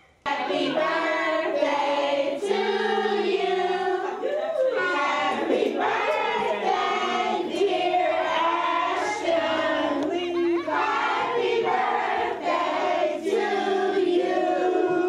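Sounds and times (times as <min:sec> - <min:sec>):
group singing held notes: 0:00.0 - 0:15.0.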